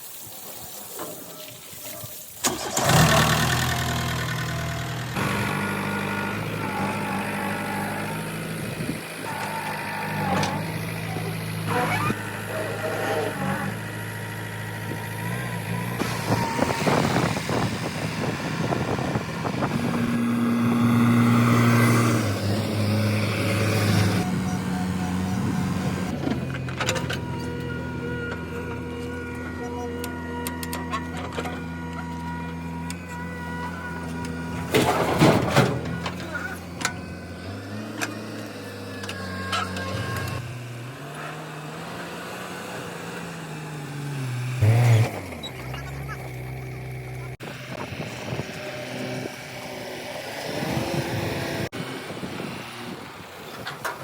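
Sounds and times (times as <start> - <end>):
diesel engine clattering: 2.4 - 54.0
engine drone: 2.4 - 54.0.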